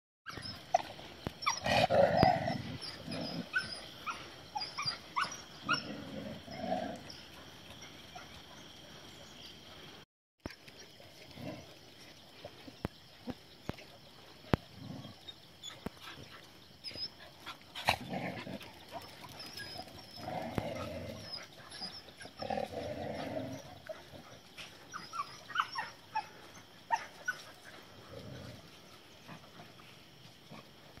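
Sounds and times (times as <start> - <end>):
dogs growling and barking: 0.3 - 9.3, 10.9 - 13.4, 14.2 - 31.0.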